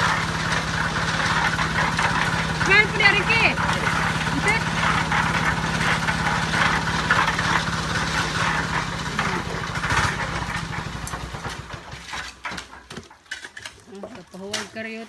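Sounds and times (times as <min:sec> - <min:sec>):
concrete mixer engine running: 0:00.0 - 0:15.0.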